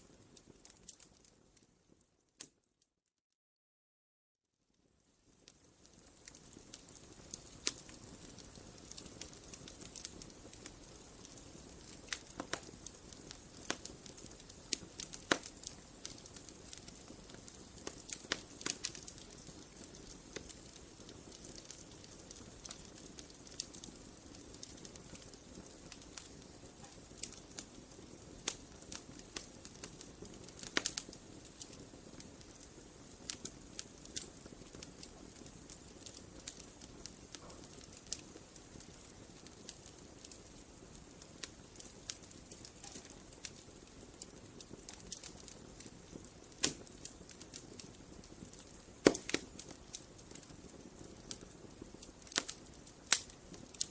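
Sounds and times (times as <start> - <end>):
bonfire crackling and popping: 0.0 - 2.6, 4.7 - 53.9
low hiss of burning: 0.0 - 2.6, 4.7 - 53.9.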